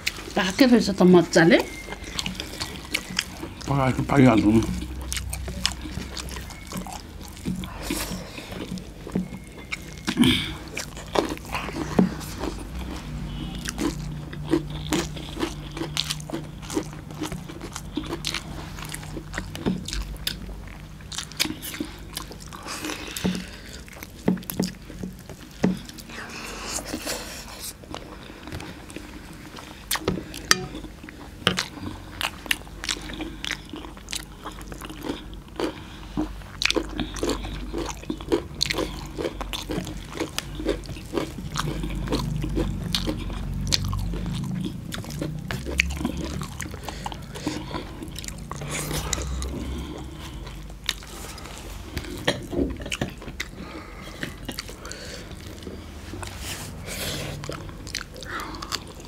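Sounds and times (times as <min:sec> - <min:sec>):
chewing and crunching: 0:00.0 - 0:59.0.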